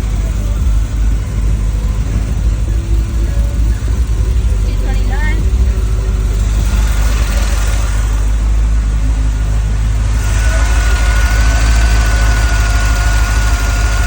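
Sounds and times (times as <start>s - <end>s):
car engine idling: 0.0s - 14.0s
thin steady whine: 0.0s - 14.0s.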